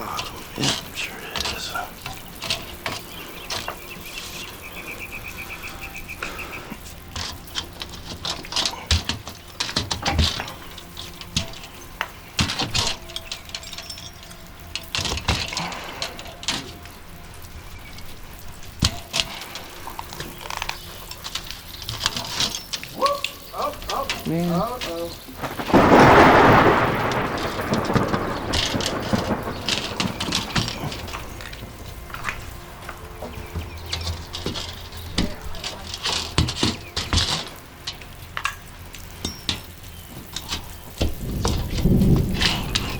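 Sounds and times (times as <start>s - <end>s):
loud metal rattling rush: 0.0s - 42.9s.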